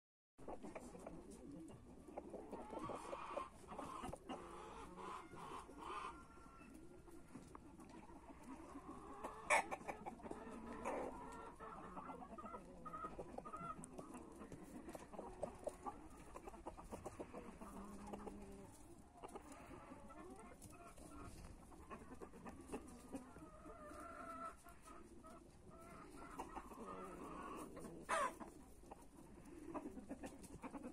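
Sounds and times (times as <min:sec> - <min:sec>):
chickens clucking softly: 0:00.4 - 0:30.9.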